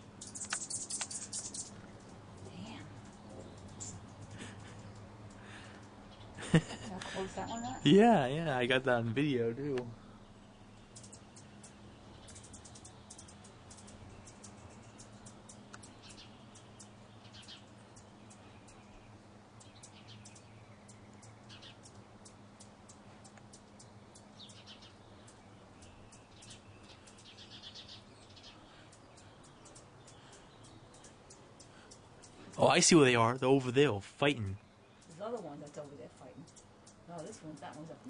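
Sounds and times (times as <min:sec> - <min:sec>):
hummingbirds chattering: 0:00.0 - 0:38.0
steady low hum: 0:00.0 - 0:38.0.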